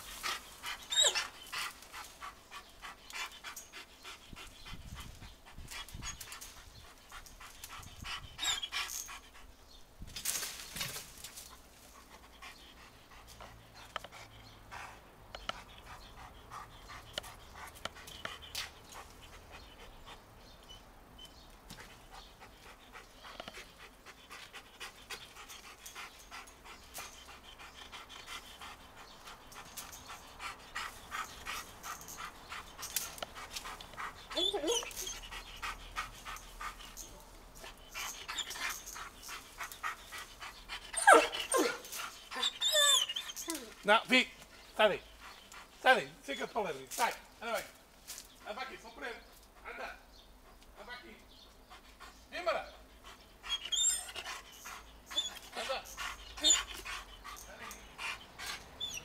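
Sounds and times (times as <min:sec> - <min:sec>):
dog panting: 0:00.0 - 0:09.7, 0:11.4 - 0:59.0.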